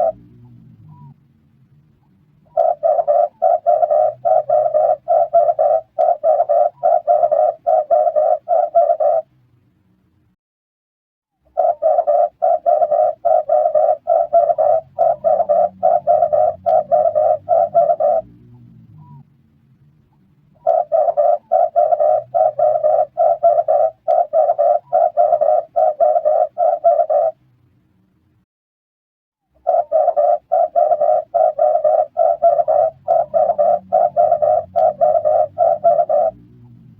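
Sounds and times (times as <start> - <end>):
dove cooing: 0.0 - 1.2, 2.4 - 9.3, 11.5 - 19.2, 20.6 - 27.4, 29.6 - 36.9.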